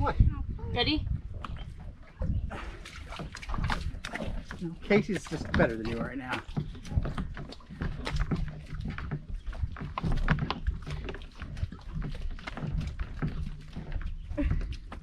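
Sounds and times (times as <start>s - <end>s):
kayak splashing in mud: 2.5s - 15.0s.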